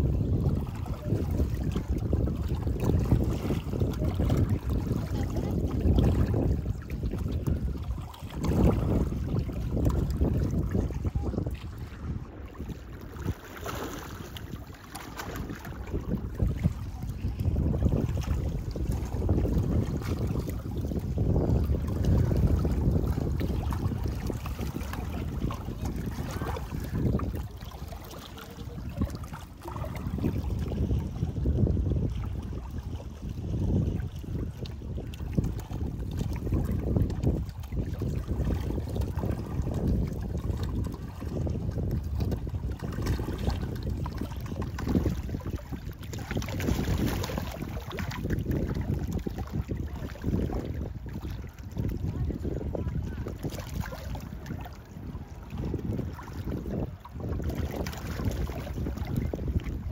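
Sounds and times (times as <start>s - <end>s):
waves lapping against rocks: 0.0s - 59.9s
wind noise on microphone: 0.0s - 59.9s.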